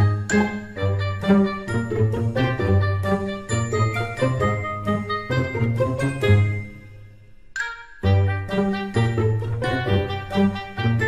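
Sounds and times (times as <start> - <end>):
music with bell-like notes: 0.0 - 11.0.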